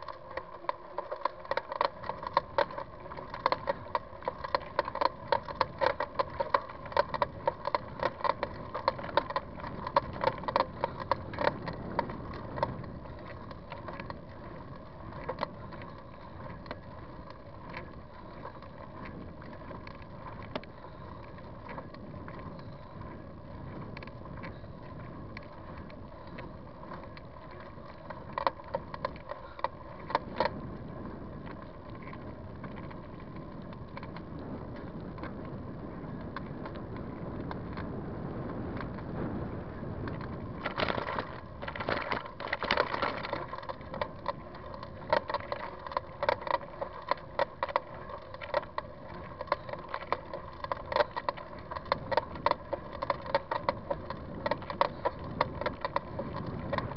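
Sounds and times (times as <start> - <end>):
bicycle rattling clicks: 0.0 - 56.9
wind and tyre noise: 0.0 - 56.9.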